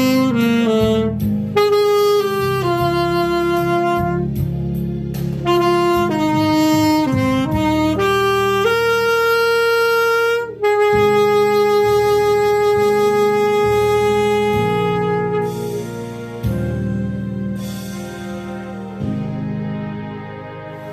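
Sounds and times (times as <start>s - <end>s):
backing track: 0.0s - 20.9s
saxophone slow melody: 0.0s - 20.9s.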